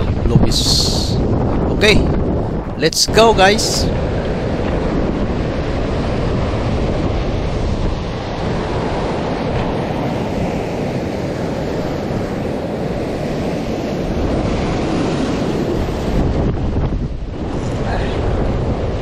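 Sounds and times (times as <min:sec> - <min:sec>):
surf breaking on rocky shore: 0:00.0 - 0:19.0
wind buffeting microphone: 0:00.0 - 0:19.0.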